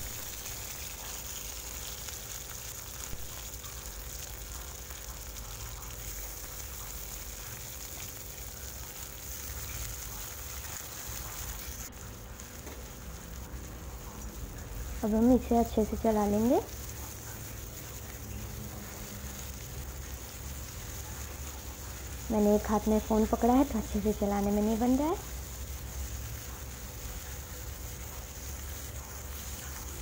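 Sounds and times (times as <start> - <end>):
peppers sizzling in oil: 0.0 - 30.0.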